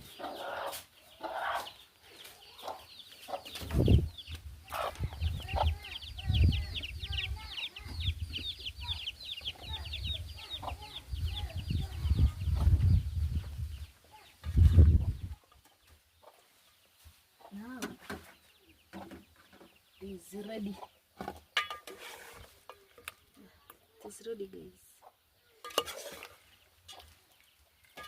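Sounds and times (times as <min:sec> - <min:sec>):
chickens calling: 0:00.0 - 0:28.0.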